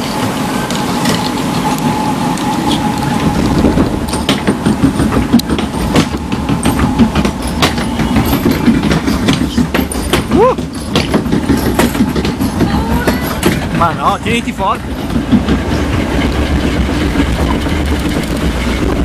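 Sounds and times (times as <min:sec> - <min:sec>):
conveyor rollers clattering: 0:00.0 - 0:19.0.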